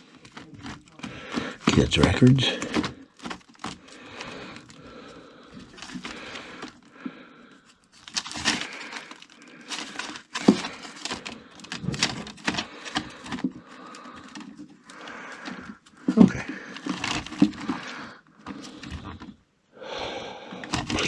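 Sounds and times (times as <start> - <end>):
paper sleeves rustling: 0.0 - 6.9, 7.6 - 19.2
records being handled: 0.0 - 7.0, 7.6 - 19.4, 20.6 - 21.0.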